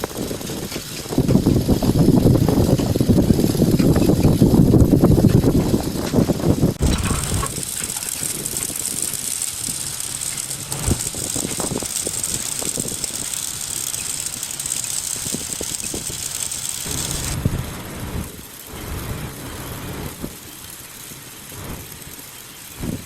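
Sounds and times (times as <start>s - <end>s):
machinery hissing: 0.0s - 23.0s.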